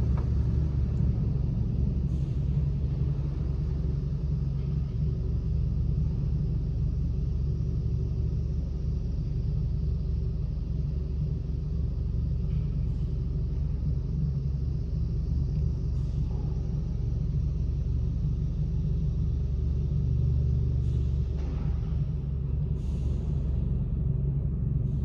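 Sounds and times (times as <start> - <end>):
car wash low rumble: 0.0 - 25.0.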